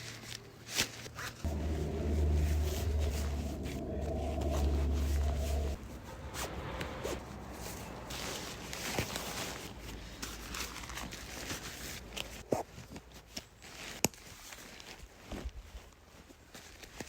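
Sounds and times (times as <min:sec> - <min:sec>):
rustling of camping gear: 0:00.0 - 0:05.8, 0:08.1 - 0:17.0.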